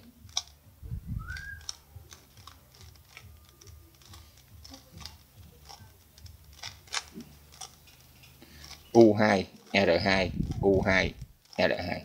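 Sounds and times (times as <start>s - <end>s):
puzzle cube clicking: 0.0s - 12.0s.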